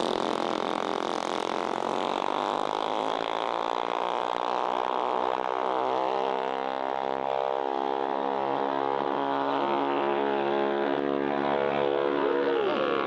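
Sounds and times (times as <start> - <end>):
mini bike engines droning: 0.0 - 13.0.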